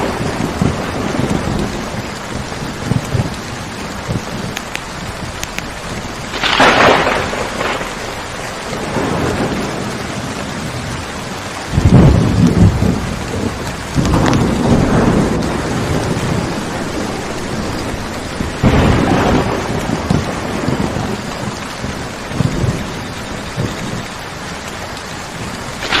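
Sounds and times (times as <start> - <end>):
steady rain: 0.0 - 26.0
thunder rumbling: 0.0 - 26.0.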